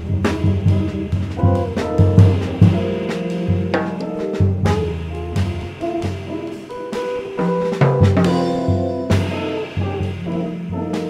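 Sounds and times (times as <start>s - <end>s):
drum kit with cymbals: 0.0s - 11.0s
electric bass plucked: 0.0s - 11.0s
electric guitar: 0.0s - 11.0s.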